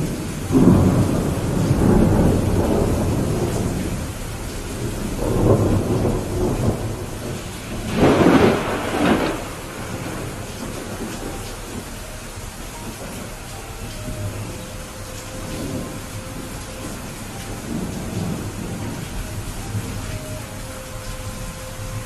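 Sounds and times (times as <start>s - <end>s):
rolling thunder: 0.0s - 22.0s
steady rain: 0.0s - 22.0s.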